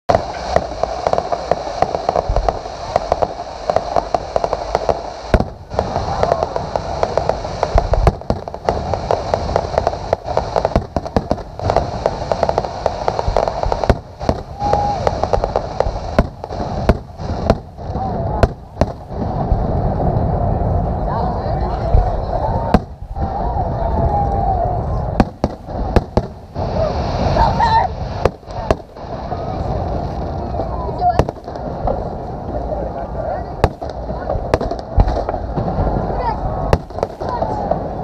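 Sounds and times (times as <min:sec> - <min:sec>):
deep fireworks booms: 0:00.1 - 0:38.0
fireworks crackling: 0:00.1 - 0:38.0.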